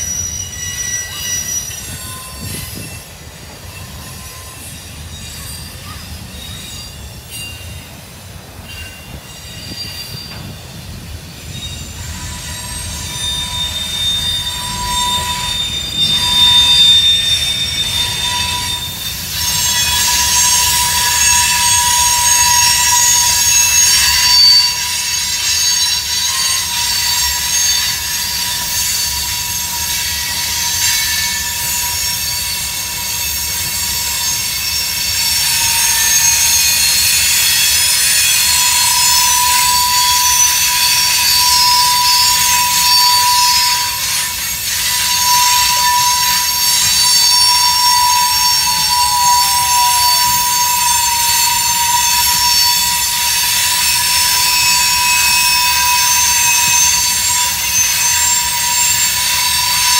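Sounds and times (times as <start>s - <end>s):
high-pitched wheel squeal: 0.0s - 7.9s, 8.6s - 59.9s
freight train rumbling past: 0.0s - 59.9s.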